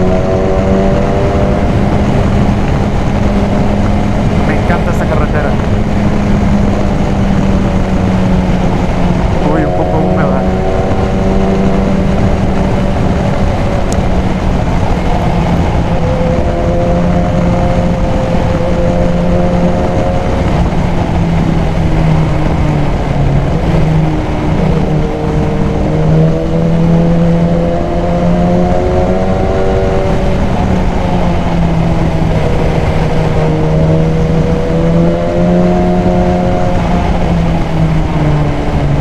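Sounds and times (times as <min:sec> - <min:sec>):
motorcycle engine running: 0:00.0 - 0:39.0
wind rushing: 0:00.0 - 0:39.0.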